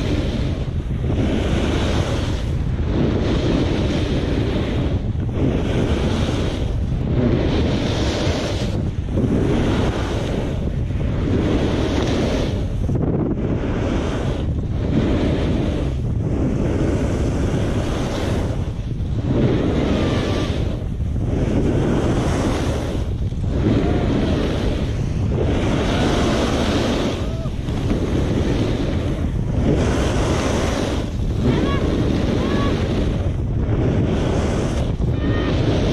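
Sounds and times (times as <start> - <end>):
snowboard carving through snow: 0.0 - 35.9
wind on microphone: 0.0 - 35.9.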